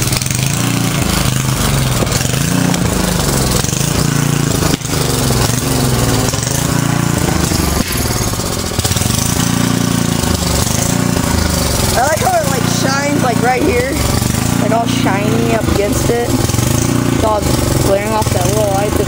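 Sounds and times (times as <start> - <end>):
portable generator engine running: 0.0 - 19.0.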